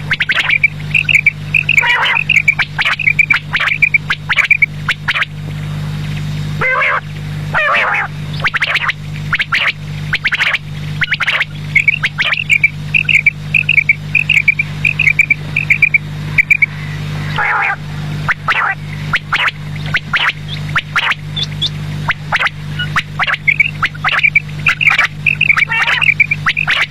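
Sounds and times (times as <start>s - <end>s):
quail calling: 0.0s - 5.3s, 6.6s - 26.9s
steady low hum: 0.0s - 26.9s.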